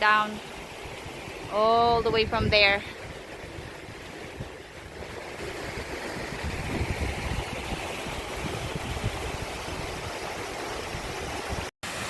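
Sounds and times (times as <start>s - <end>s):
waterfall and creek rushing: 0.0s - 12.0s.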